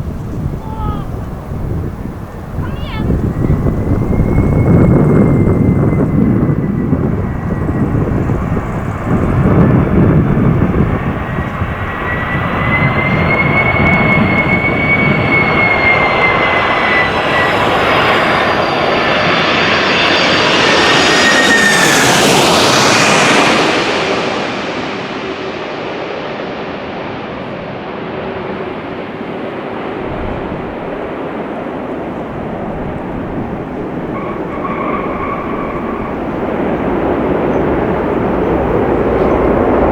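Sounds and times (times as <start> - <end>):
jet airliner engines whining: 0.0 - 39.9
loud aircraft rumble: 0.0 - 39.9.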